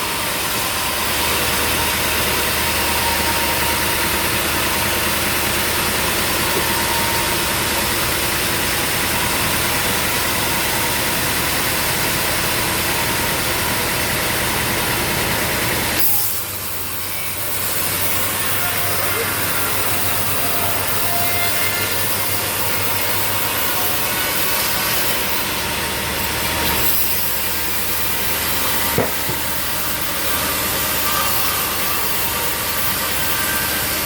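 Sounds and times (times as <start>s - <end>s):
sawmill machinery running: 0.0s - 34.0s.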